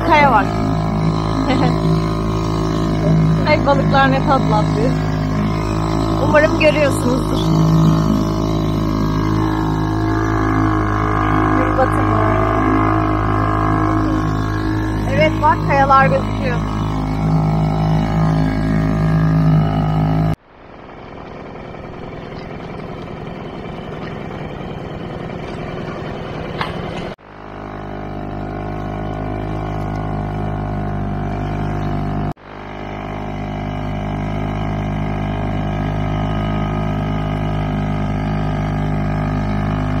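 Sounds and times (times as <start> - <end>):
small outboard motor running: 0.0 - 40.0.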